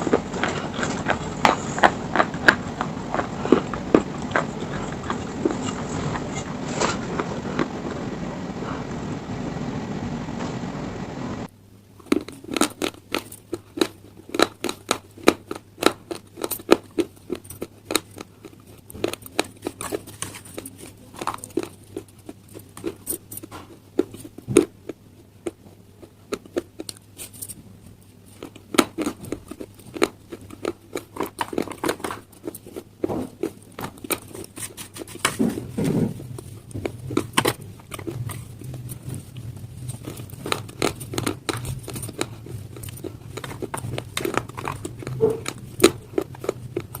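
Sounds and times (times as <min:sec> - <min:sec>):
chewing stone with sharp crunches: 0:00.0 - 0:07.8, 0:12.0 - 0:27.5, 0:28.2 - 0:47.0.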